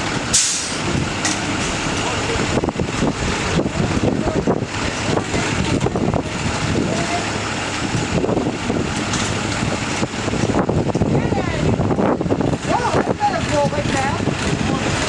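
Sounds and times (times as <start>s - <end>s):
bus engines running: 0.0s - 15.0s
wind buffeting microphone: 0.0s - 15.0s.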